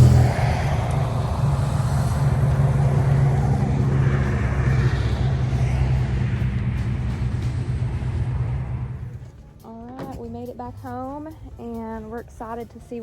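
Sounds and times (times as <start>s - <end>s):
low engine hum: 0.0s - 13.0s
road noise: 0.0s - 13.0s.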